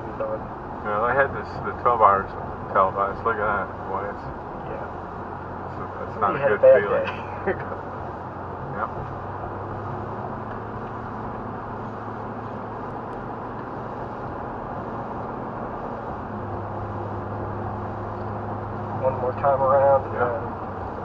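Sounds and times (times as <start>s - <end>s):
low engine hum: 0.0s - 21.0s
road and tyre noise: 0.0s - 21.0s.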